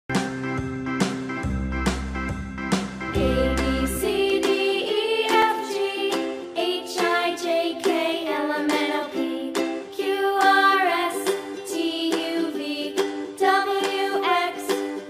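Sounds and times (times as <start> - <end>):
background music melody: 0.1 - 15.0.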